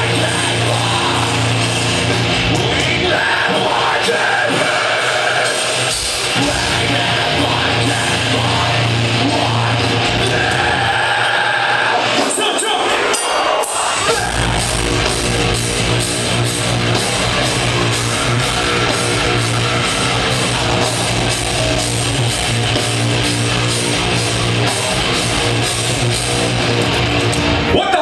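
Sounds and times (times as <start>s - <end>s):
bass guitar: 0.0s - 11.0s, 14.0s - 27.8s
distorted guitars: 0.0s - 28.0s
drums with cymbal hits: 0.0s - 28.0s.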